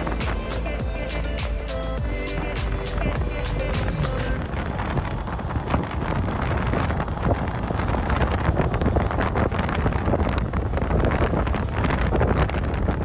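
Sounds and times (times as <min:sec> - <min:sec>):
low road noise: 0:00.0 - 0:13.0
wind buffeting microphone: 0:00.0 - 0:13.0.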